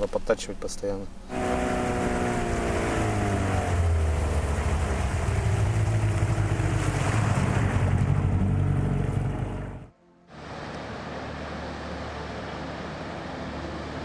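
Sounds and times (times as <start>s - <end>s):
water noise: 0.0s - 14.0s
outboard motor running: 1.0s - 14.0s.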